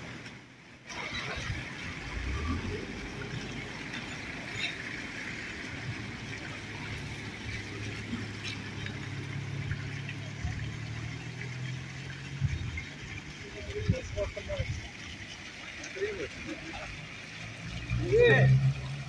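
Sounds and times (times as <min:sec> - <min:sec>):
car engine humming: 0:00.0 - 0:19.0
street traffic: 0:00.0 - 0:19.0.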